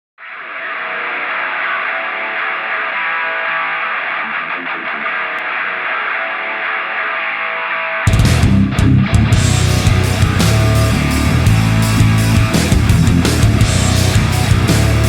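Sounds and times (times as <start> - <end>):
distorted rock guitar music: 0.2 - 15.0.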